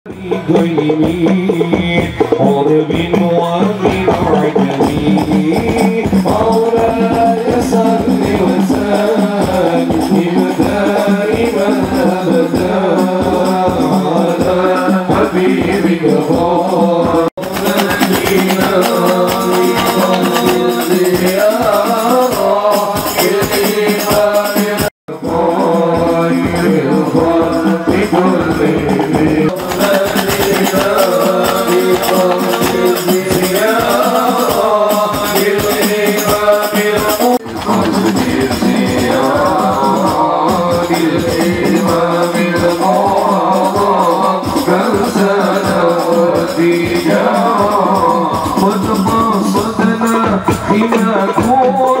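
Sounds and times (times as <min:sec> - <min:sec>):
frame drums with jingles: 0:00.1 - 0:52.0
person singing a melody: 0:00.1 - 0:52.0.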